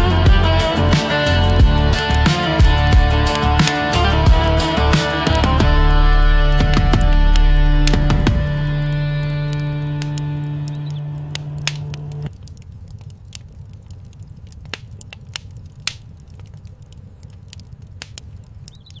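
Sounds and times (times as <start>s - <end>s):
fireplace fire crackling: 0.0s - 19.0s.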